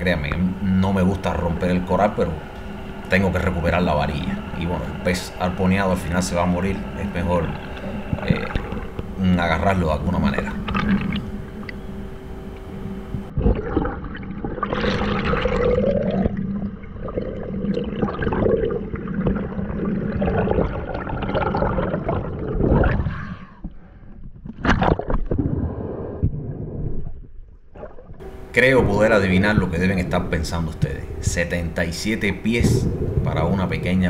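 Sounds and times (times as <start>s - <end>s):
underwater water rushing and gurgling: 0.0s - 23.7s, 24.3s - 31.5s, 32.1s - 34.0s.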